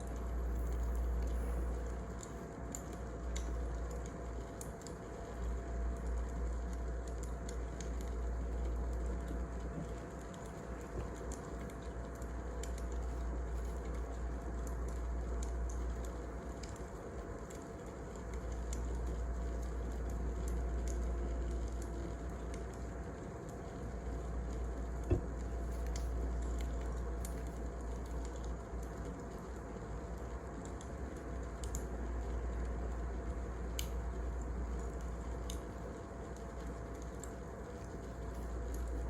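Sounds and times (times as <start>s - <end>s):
wood fire crackling: 0.1s - 39.0s.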